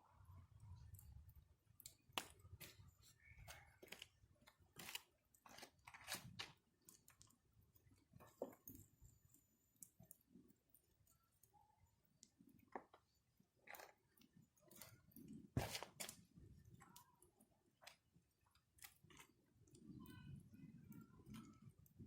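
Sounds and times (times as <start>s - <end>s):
wood fire crackling and popping: 0.6s - 22.0s.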